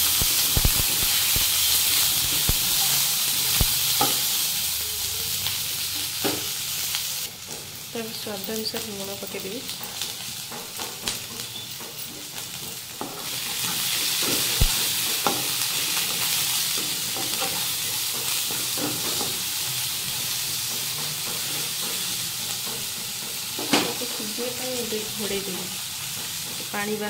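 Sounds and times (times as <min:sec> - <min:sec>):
tomatoes sizzling in oil: 0:00.0 - 0:27.0.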